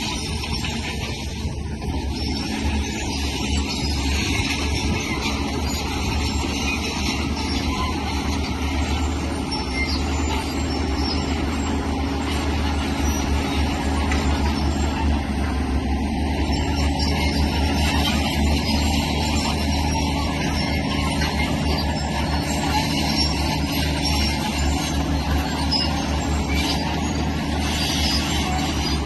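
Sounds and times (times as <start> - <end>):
heavy diesel engine droning: 0.0 - 29.0.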